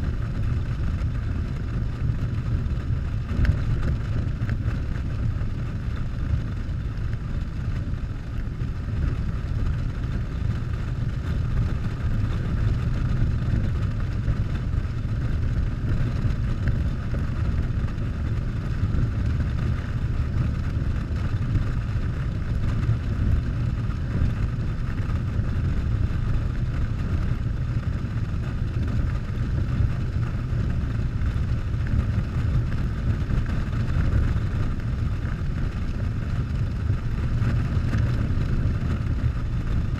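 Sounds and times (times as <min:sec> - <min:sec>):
motorcycle engine rumble: 0:00.0 - 0:39.9
wind rush on microphone: 0:00.0 - 0:39.9.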